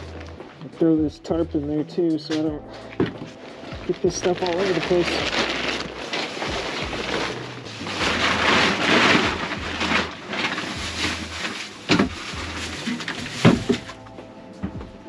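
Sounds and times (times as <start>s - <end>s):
plastic tarp rustling: 0.0s - 14.1s.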